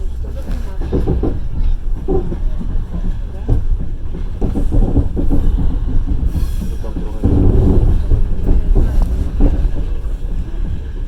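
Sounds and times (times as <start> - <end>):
train wheels rumbling and clacking: 0.0 - 11.0
knocks: 0.8 - 10.9.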